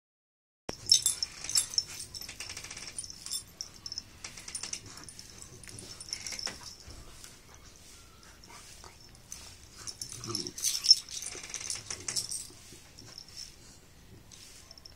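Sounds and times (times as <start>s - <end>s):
dogs play-fighting: 0.7s - 14.9s.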